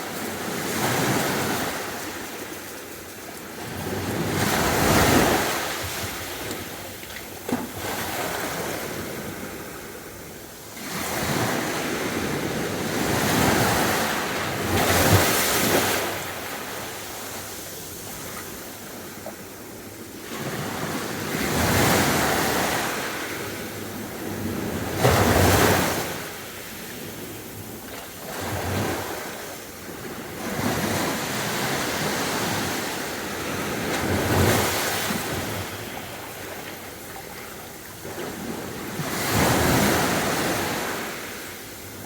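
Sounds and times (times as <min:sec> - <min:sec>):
sea waves breaking on beach: 0:00.0 - 0:10.0, 0:10.7 - 0:19.2, 0:20.2 - 0:42.0.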